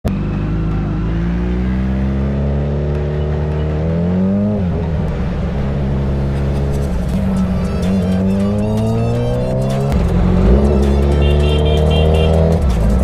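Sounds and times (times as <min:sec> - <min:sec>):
motorcycle engine accelerating: 0:00.1 - 0:13.0.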